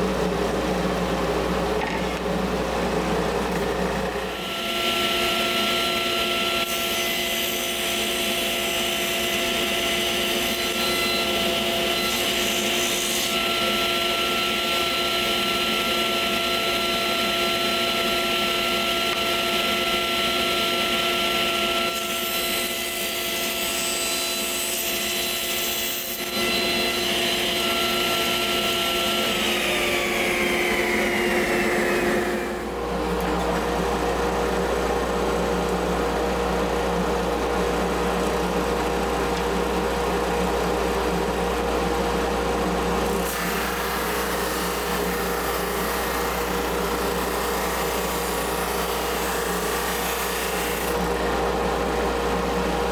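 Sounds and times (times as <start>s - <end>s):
drum sander motor whine: 0.1s - 6.7s, 9.3s - 22.0s, 26.2s - 50.2s, 50.9s - 52.9s.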